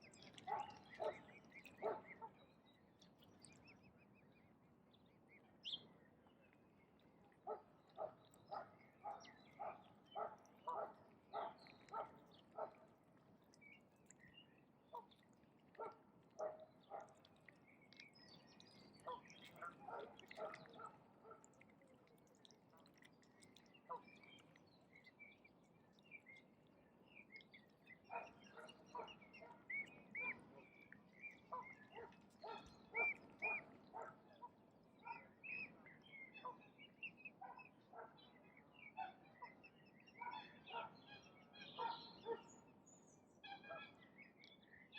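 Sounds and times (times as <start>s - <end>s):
small birds chirping: 0.0s - 43.3s.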